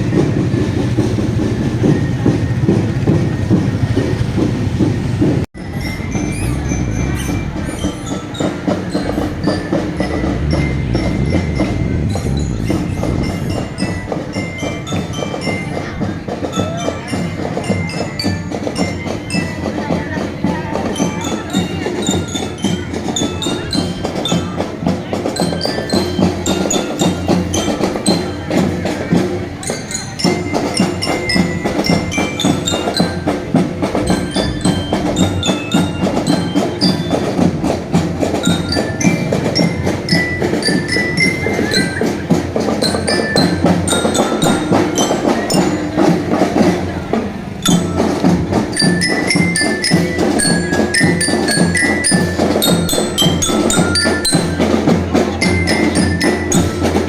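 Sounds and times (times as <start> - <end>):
bell-lyre melody: 0.0 - 57.0
snare and bass drums: 0.0 - 57.0.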